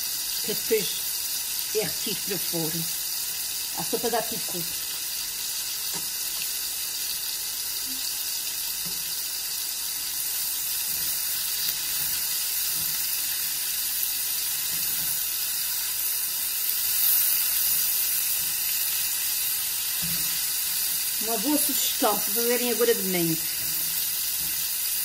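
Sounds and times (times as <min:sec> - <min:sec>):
vegetables sizzling in a pan: 0:00.0 - 0:25.0.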